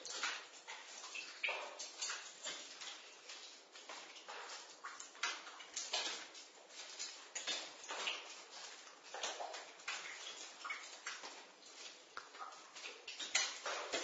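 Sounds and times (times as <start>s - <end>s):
water dripping: 0.0s - 14.0s.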